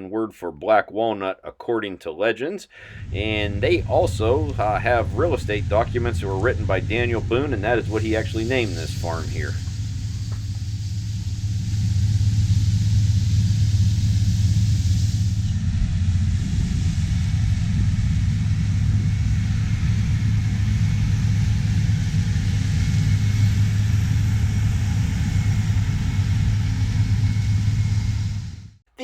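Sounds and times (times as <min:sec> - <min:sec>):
harvest machinery engine rumble: 0:02.9 - 0:28.6
faint high whine: 0:02.9 - 0:28.8.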